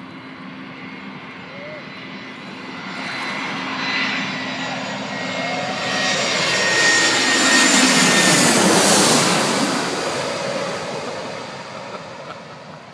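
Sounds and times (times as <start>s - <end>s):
jet airliner passing overhead: 0.0s - 12.9s.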